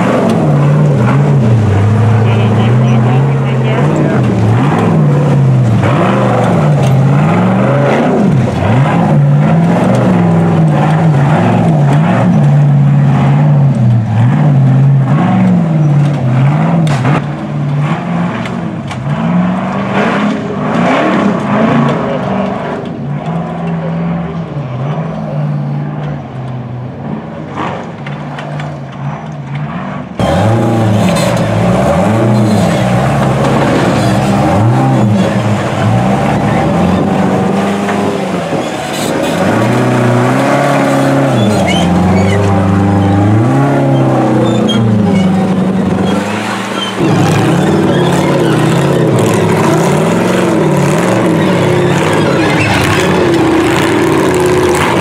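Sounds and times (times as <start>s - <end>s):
off-road car engine revving: 0.0s - 55.0s.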